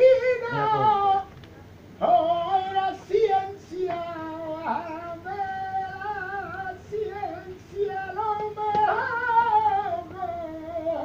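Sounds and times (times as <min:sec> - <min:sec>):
man singing in high register: 0:00.0 - 0:01.3, 0:02.0 - 0:11.0.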